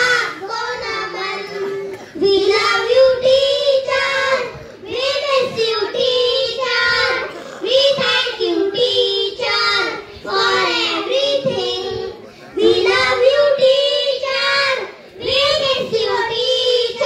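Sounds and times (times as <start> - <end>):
children singing into microphones: 0.0 - 17.0.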